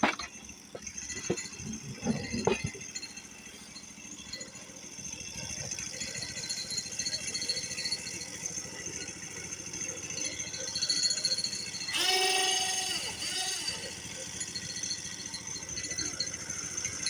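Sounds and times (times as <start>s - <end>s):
machinery rattling: 0.0s - 17.0s.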